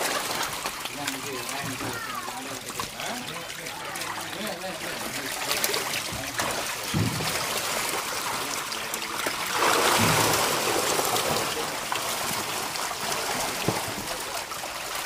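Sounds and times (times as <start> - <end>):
water churning and splashing: 0.0 - 15.0.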